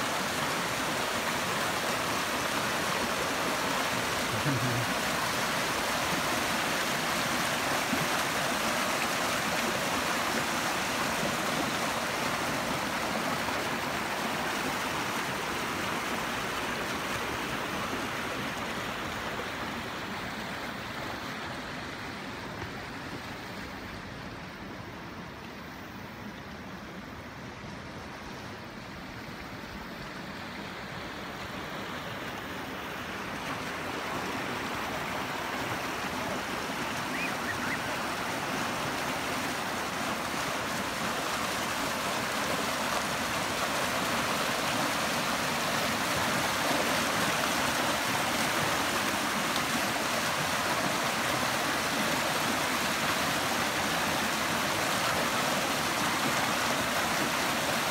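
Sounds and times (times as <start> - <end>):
river rapids rushing: 0.0 - 25.3, 28.6 - 57.9.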